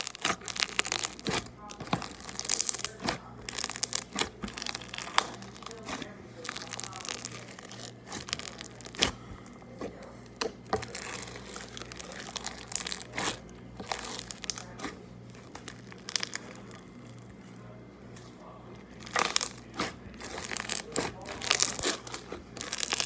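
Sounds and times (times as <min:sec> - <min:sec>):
hands squishing sticky slime: 0:00.0 - 0:23.0.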